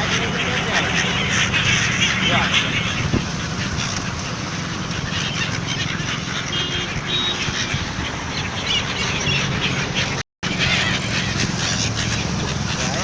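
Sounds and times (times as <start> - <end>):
gulls calling and squawking: 0.0 - 13.0
steady rushing background noise: 0.0 - 13.0.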